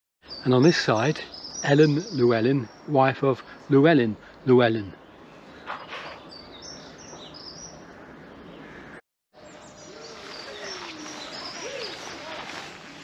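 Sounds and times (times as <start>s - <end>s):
outdoor background noise: 0.2s - 13.0s
songbirds chirping: 0.2s - 13.0s.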